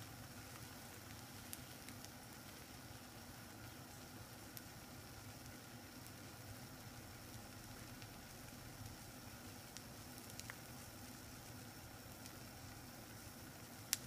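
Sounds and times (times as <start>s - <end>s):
omelet sizzling in a pan: 0.0s - 14.0s
small crackles: 0.0s - 14.0s.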